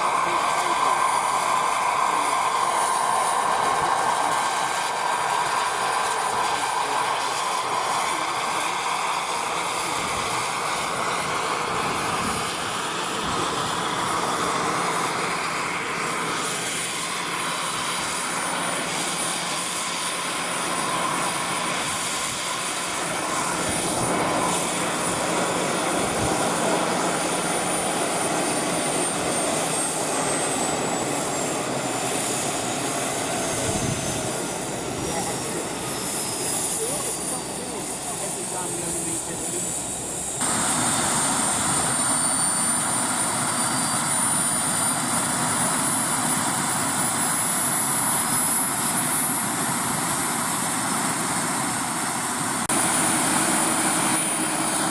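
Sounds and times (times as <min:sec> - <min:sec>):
model helicopter whining drone: 0:00.0 - 0:54.9.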